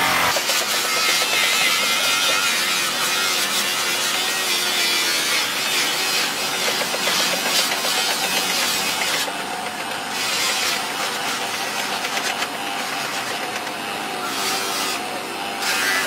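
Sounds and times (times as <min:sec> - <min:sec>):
polishing motor running: 0:00.0 - 0:16.0.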